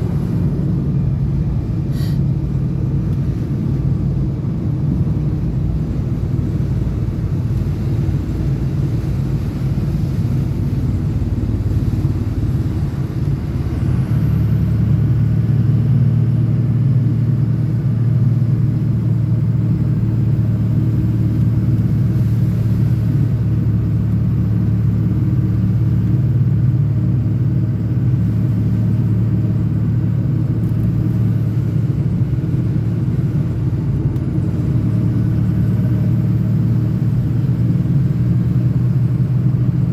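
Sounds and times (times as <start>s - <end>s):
pickup truck engine rumble: 0.0s - 39.9s
road rumble: 0.0s - 39.9s.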